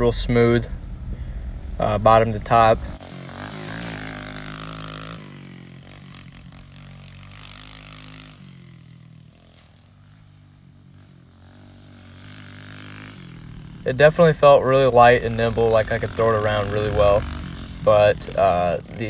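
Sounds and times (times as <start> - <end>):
motorbike engine running: 0.9 - 19.0.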